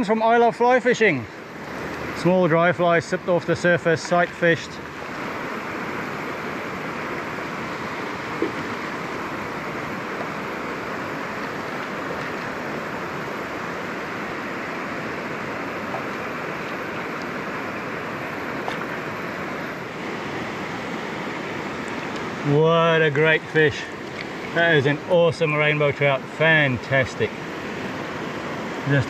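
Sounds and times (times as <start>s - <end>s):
river rushing over rocks: 0.0s - 29.0s.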